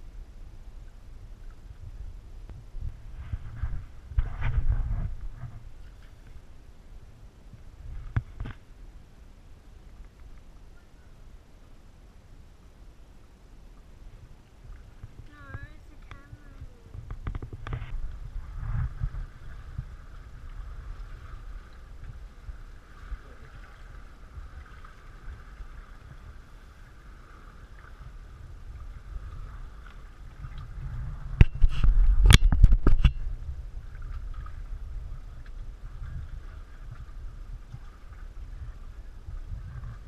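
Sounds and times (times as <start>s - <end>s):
low microphone rumble: 0.0s - 9.8s, 10.5s - 40.0s
water sloshing against hull: 0.6s - 11.5s, 13.5s - 40.0s
paddle dipping in water: 2.4s - 8.9s, 13.7s - 40.0s.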